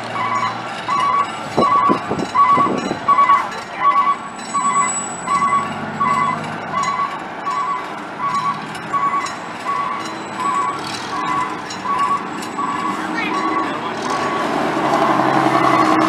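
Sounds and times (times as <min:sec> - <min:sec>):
truck backup alarm beeping: 0:00.0 - 0:16.0
truck engine running: 0:00.0 - 0:16.0.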